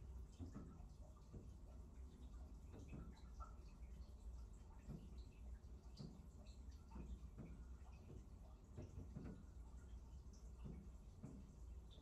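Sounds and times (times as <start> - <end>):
low steady hum: 0.0 - 12.0
soft irregular ticks: 0.0 - 12.0.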